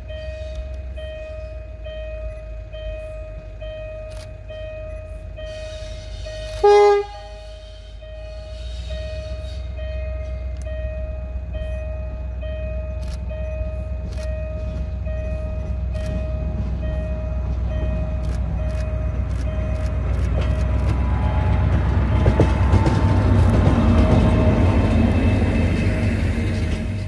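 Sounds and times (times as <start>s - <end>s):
level crossing warning bell: 0.0s - 23.1s
diesel locomotive engine: 0.0s - 27.0s.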